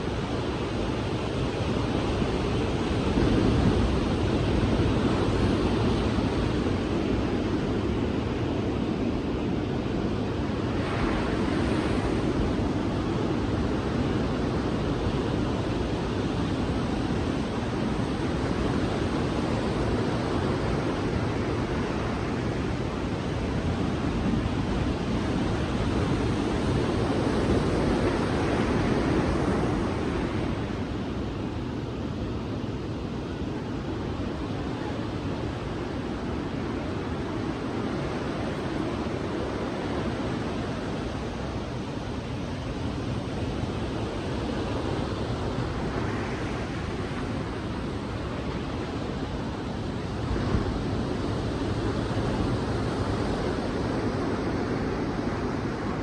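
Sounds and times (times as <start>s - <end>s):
sea surf washing onto beach: 0.0s - 56.0s.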